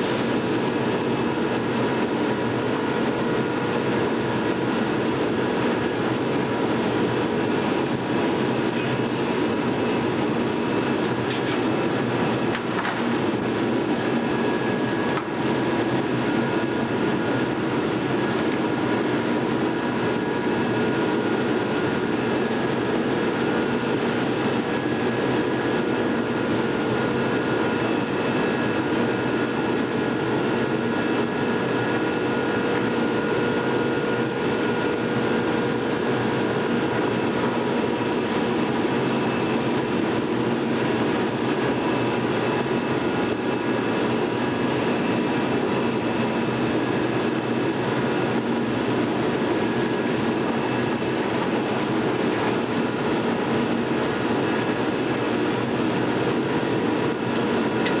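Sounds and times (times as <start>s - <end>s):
industrial machinery rumbling: 0.0s - 58.0s.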